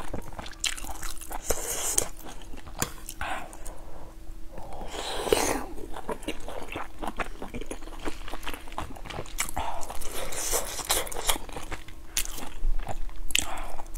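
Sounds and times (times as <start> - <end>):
person chewing food: 0.0 - 13.9.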